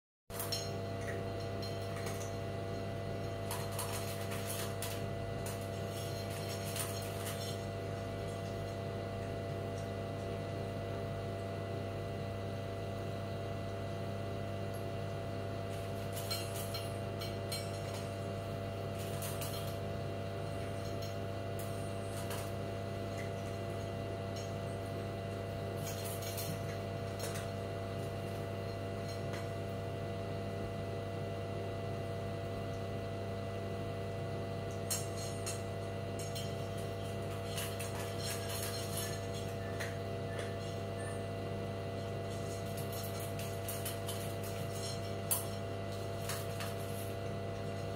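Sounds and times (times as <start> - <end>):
cat eating from a bowl: 0.3 - 12.8, 13.4 - 47.9.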